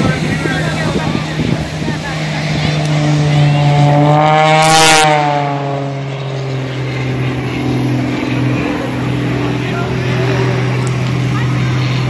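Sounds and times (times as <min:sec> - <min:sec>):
small airplane engine droning: 0:00.0 - 0:12.0
steady low hum: 0:00.0 - 0:12.0.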